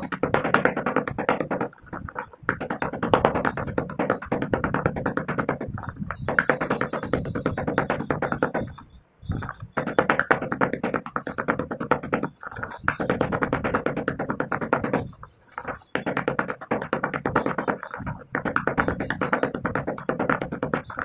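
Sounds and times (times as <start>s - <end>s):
stone pestle crushing clay: 0.0s - 21.0s.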